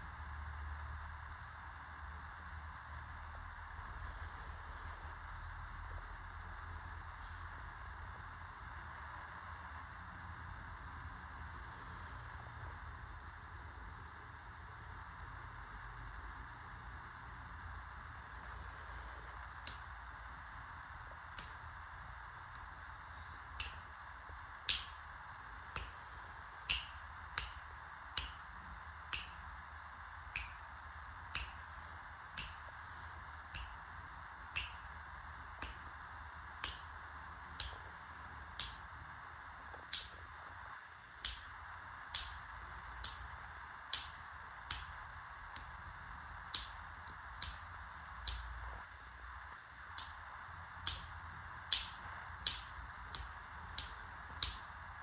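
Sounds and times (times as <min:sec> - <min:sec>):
faint hiss: 0:01.7 - 0:14.9, 0:16.0 - 0:55.0.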